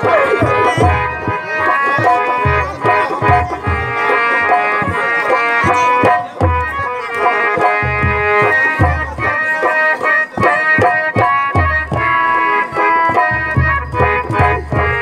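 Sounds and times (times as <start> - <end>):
harmonium chords: 0.0 - 15.0.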